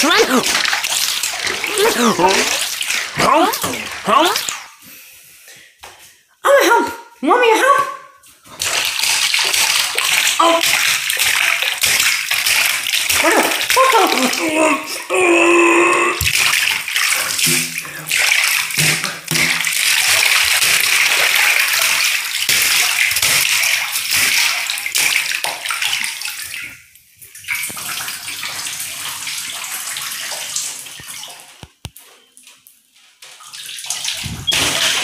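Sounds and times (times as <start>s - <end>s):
water splashing in a bathtub: 0.0s - 35.0s.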